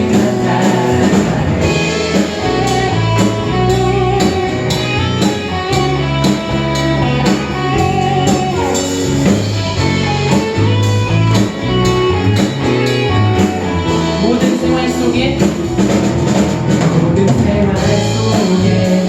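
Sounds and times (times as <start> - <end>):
drum kit beat: 0.0 - 19.0
guitar: 0.0 - 19.0.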